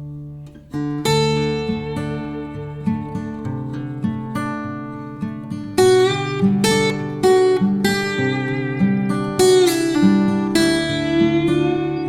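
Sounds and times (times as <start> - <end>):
plucked acoustic guitar: 0.0 - 12.0.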